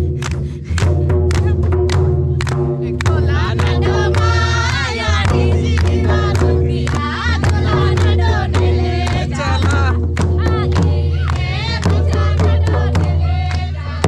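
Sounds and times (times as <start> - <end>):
group singing folk song: 2.2 - 14.0.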